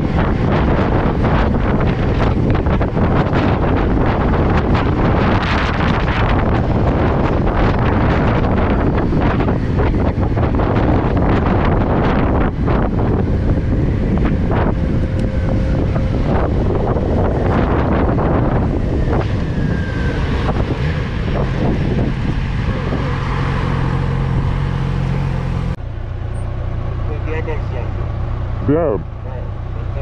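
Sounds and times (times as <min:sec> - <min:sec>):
motorcycle engine drone: 0:00.0 - 0:30.0
wind buffeting helmet microphone: 0:00.0 - 0:30.0.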